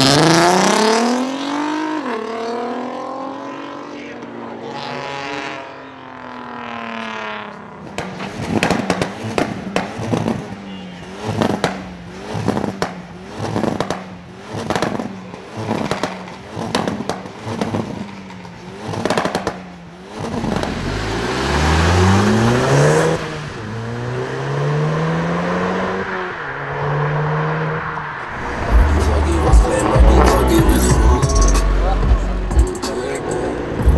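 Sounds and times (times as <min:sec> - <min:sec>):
car accelerating hard: 0:00.0 - 0:33.9
car engine revving with crackles: 0:00.0 - 0:33.9.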